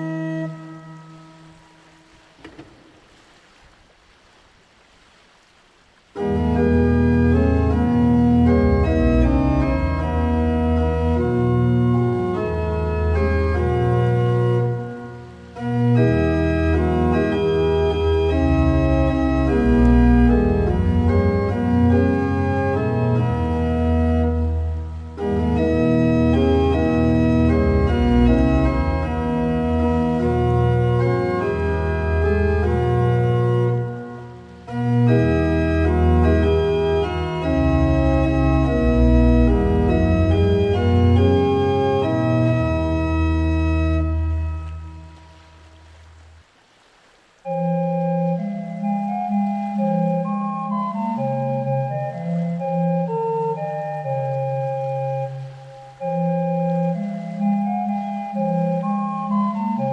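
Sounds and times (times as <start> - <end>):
organ playing a hymn: 0.0 - 1.7, 6.2 - 45.9, 47.5 - 59.9.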